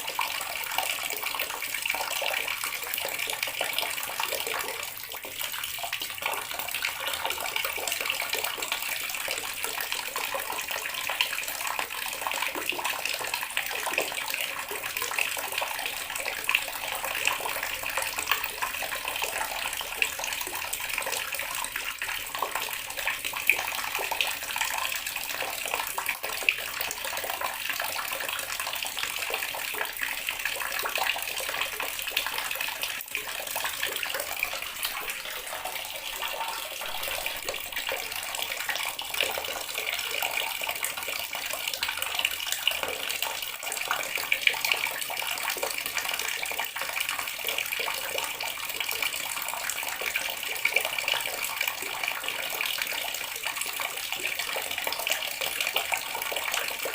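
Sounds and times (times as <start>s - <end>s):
water running from a tap: 0.0s - 56.9s.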